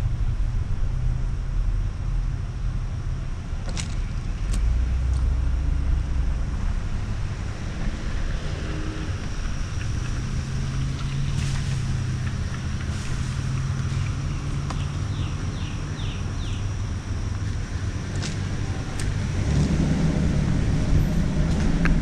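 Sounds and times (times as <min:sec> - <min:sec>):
car engine and road hum: 0:00.0 - 0:22.0
tyre noise on wet pavement: 0:00.0 - 0:22.0.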